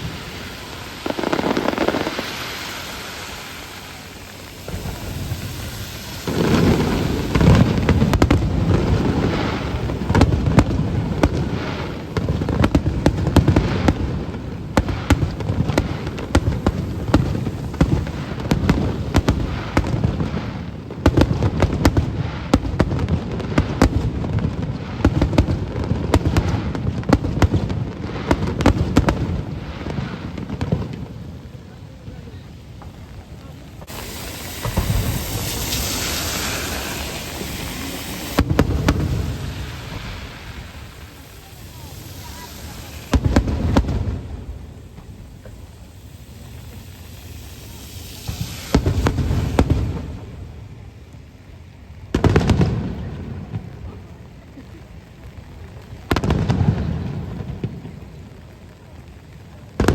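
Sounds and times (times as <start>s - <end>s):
fireworks booming and crackling: 0.0s - 59.9s.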